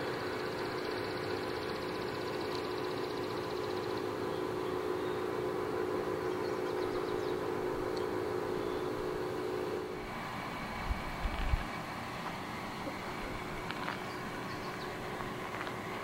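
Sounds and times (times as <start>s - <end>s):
engine hum with droning tone: 0.0s - 16.0s.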